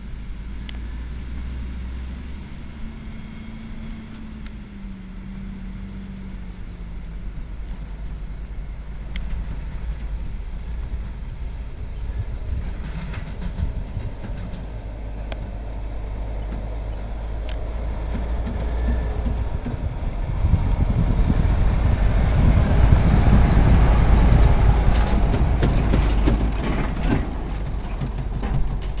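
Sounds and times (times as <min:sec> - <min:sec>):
truck driving past: 0:00.0 - 0:29.0.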